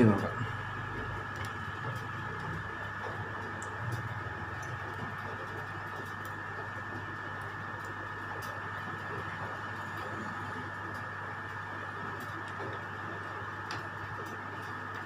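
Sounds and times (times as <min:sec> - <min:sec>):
background hum with high whine: 0:00.0 - 0:15.0.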